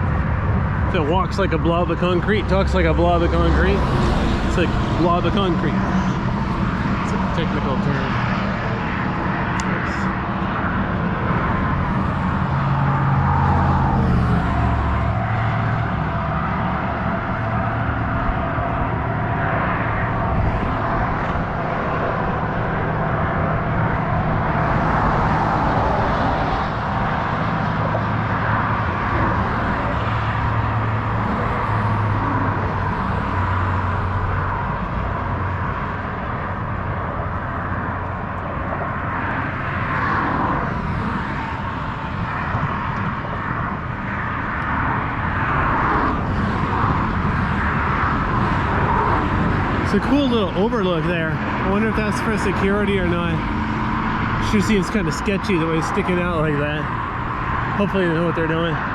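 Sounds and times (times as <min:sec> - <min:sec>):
engine drone: 0:00.0 - 0:58.9
wind noise: 0:00.0 - 0:58.9.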